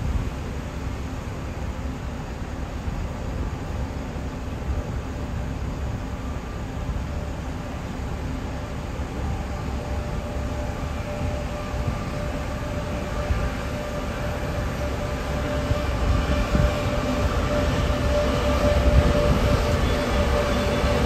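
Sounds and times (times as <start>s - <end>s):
electric train rumbling: 0.0s - 21.0s.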